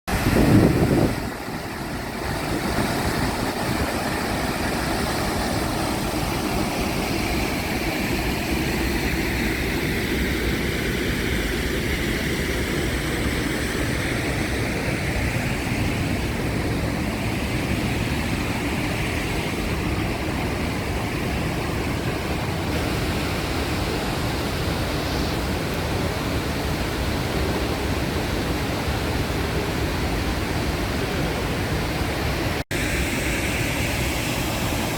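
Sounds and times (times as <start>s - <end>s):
waterfall rushing water: 0.1s - 34.9s.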